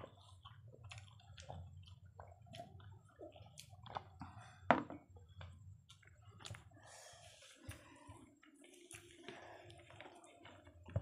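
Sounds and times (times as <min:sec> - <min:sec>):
person chewing and smacking: 0:00.0 - 0:11.0.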